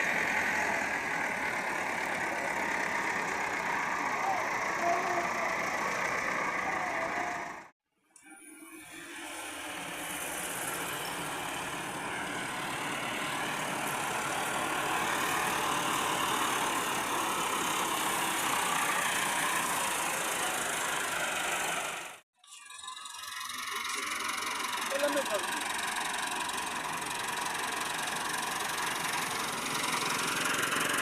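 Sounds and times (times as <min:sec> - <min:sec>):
tractor diesel engine running: 0:00.0 - 0:07.7, 0:09.3 - 0:31.0.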